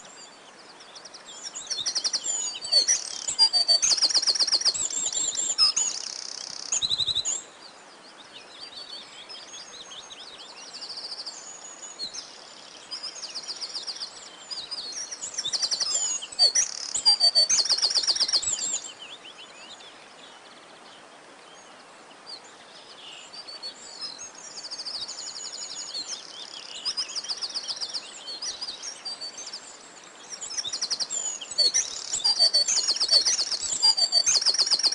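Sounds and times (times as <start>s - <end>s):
songbirds trilling and chirping: 0.0s - 34.9s.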